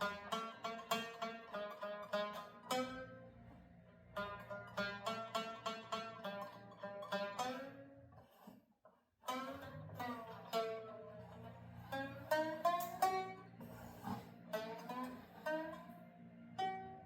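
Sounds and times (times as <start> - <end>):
plucked zither notes: 0.0 - 3.6, 4.2 - 8.4, 9.3 - 17.0
low ringing strings: 0.0 - 8.1, 9.3 - 17.0.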